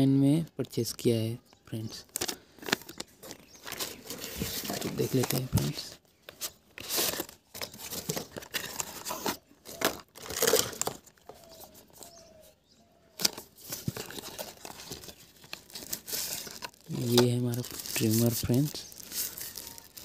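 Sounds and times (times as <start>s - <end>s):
paper rustling and scraping: 2.1s - 12.2s, 13.2s - 20.0s.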